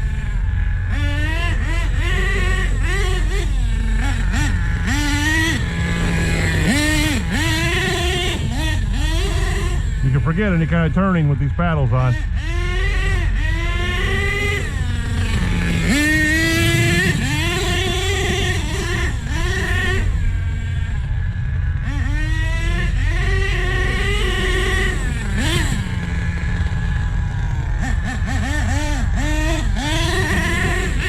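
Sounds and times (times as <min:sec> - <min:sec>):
engine throttle blips: 0:00.0 - 0:31.0
model truck engine revving: 0:00.0 - 0:31.0.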